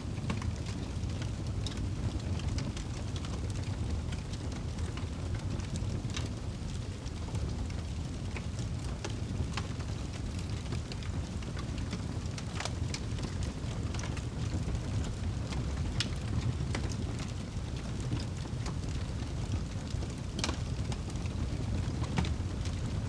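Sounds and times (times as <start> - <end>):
wood fire crackling: 0.1 - 23.0.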